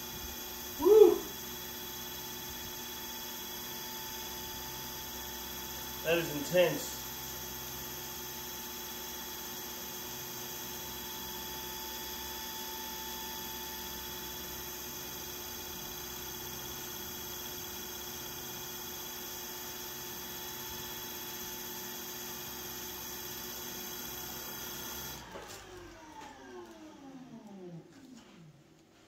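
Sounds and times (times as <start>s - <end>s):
electric motor spinning fan blade: 0.0s - 27.8s.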